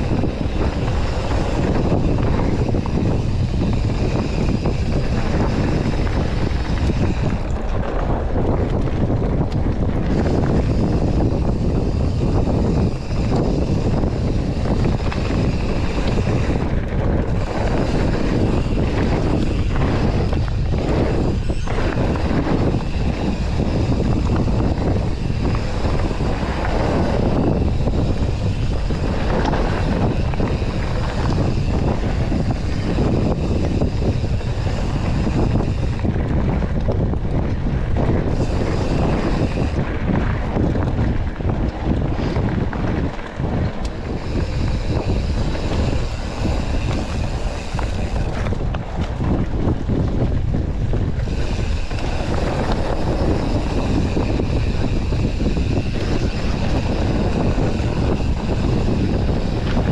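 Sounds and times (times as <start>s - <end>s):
bike tyre and frame noise: 0.0s - 59.9s
wind buffeting microphone: 0.0s - 59.9s.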